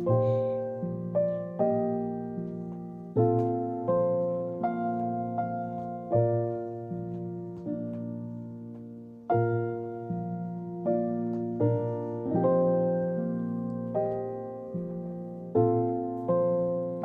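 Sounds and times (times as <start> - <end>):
slow solo piano chords: 0.0 - 17.0.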